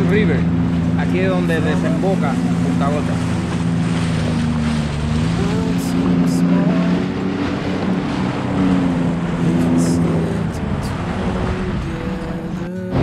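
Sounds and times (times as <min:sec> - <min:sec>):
water rushing under hull: 0:00.0 - 0:13.0
watercraft engine running: 0:00.0 - 0:13.0.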